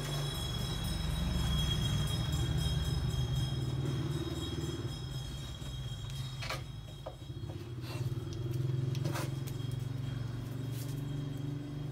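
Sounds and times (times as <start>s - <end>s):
engine running with pulsing drone: 0.0s - 11.9s.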